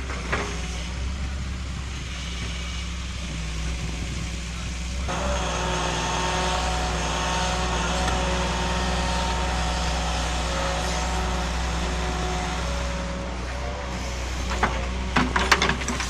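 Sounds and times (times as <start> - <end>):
thin steady whining tones: 0.0 - 15.6
excavator diesel engine running: 0.0 - 16.0.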